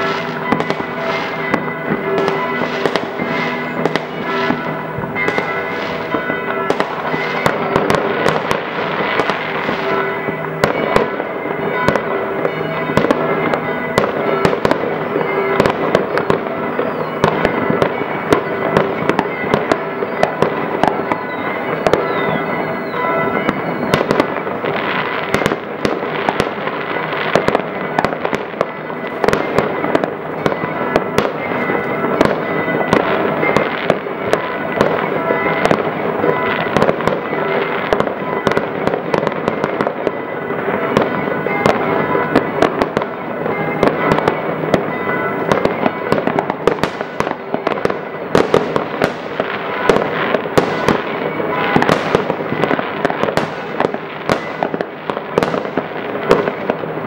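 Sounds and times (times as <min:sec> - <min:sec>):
fireworks crackling and popping: 0:00.0 - 0:57.0
fireworks sharp bangs: 0:00.0 - 0:57.0.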